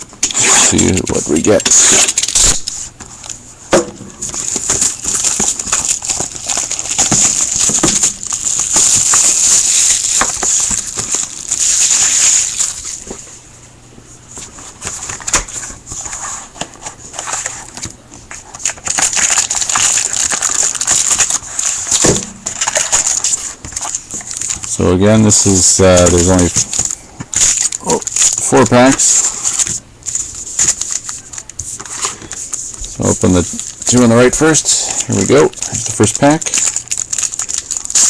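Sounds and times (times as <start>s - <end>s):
plastic shrink wrap crinkling: 0.2s - 3.4s, 4.1s - 13.3s, 14.3s - 38.0s.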